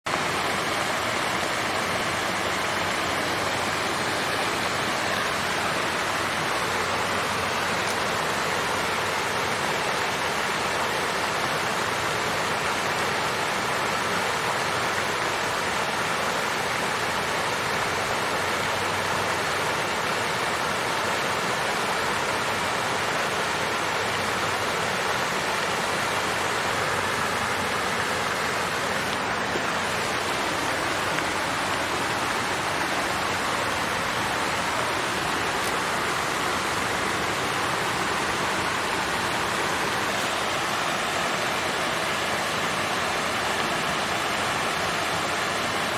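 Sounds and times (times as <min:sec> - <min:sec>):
fountain water splashing: 0:00.1 - 0:45.9.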